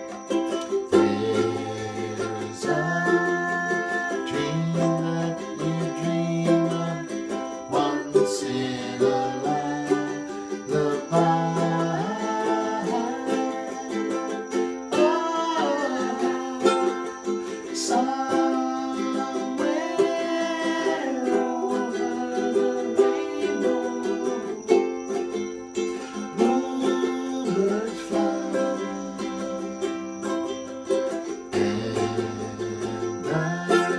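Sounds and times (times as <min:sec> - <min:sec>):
ukulele strumming chords: 0:00.0 - 0:33.9.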